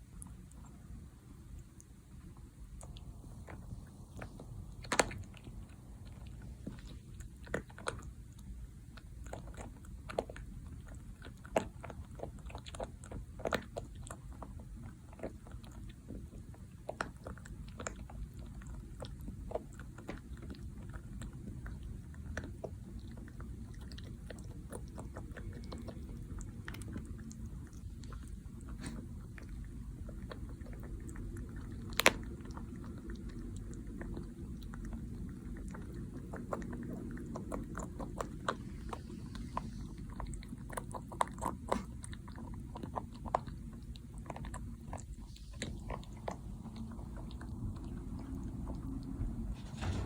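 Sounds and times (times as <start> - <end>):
rabbit teeth crunching: 0.0 - 50.0.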